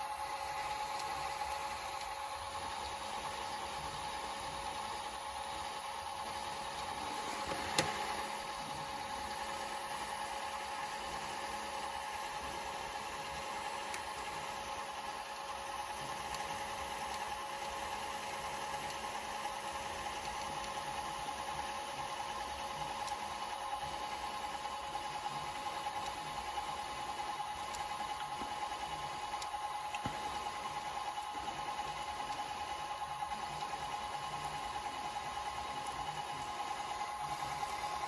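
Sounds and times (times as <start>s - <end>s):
tape rewinding motor whine: 0.0s - 38.0s.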